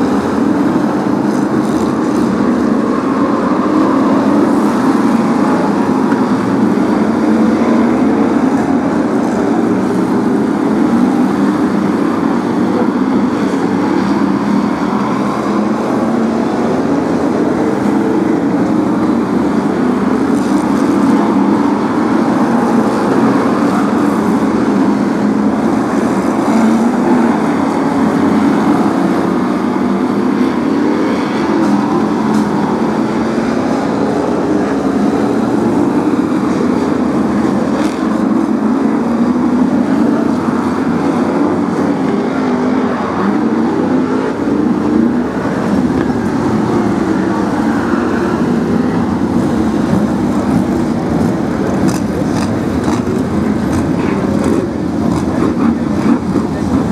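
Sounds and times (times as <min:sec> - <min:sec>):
stock car engines running: 0:00.0 - 0:56.9.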